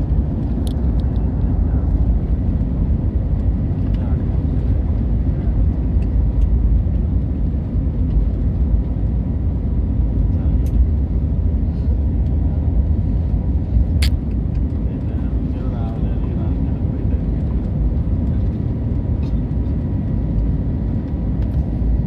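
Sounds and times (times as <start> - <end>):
airplane taking off: 0.0 - 22.0.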